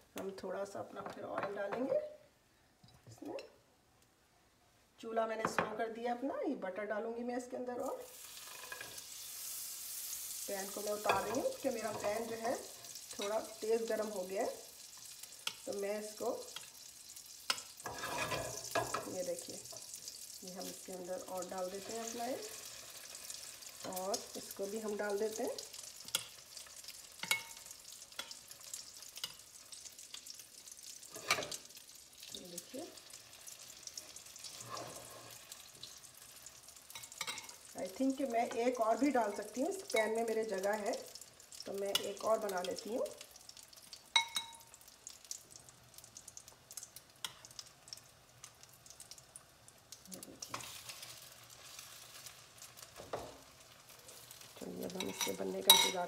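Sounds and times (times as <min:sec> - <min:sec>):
bread sizzling in a pan: 0:07.7 - 0:56.0.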